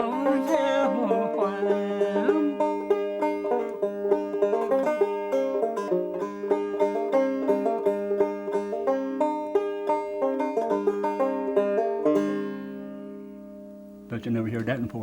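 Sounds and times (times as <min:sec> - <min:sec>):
banjo plucking: 0:00.0 - 0:14.2.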